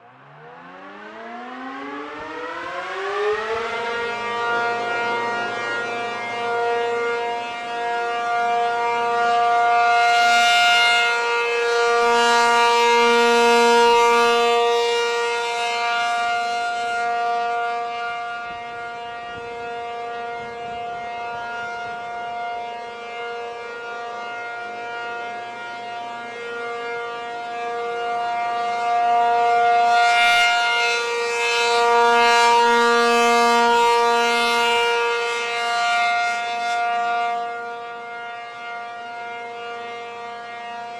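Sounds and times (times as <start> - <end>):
steady warning siren tone: 0.0 - 40.9.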